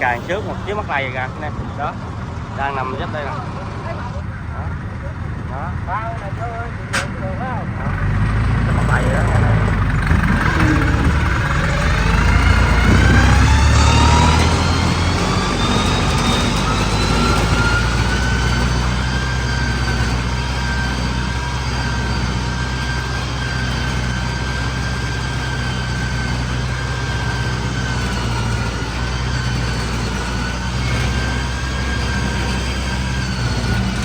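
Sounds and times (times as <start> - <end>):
high whine: 0.0 - 8.0, 8.7 - 34.0
harvester engine running hard: 0.0 - 34.0.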